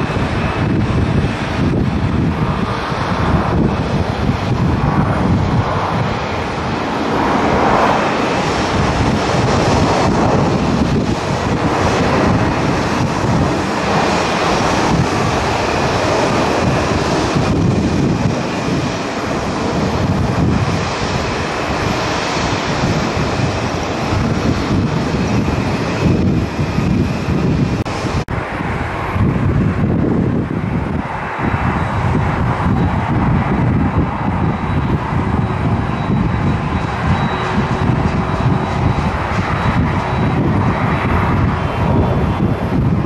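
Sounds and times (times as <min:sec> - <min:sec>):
jet engines at takeoff power: 0:00.0 - 0:43.0
wind buffeting microphone: 0:00.0 - 0:43.0.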